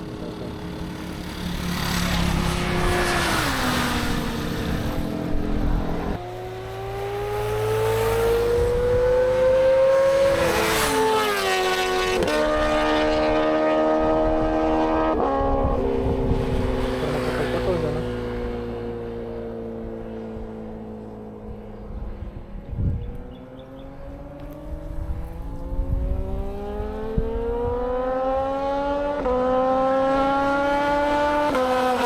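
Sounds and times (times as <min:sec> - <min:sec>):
motorcycle engine accelerating: 0:00.0 - 0:32.0
wind noise: 0:02.4 - 0:18.7, 0:21.4 - 0:32.0.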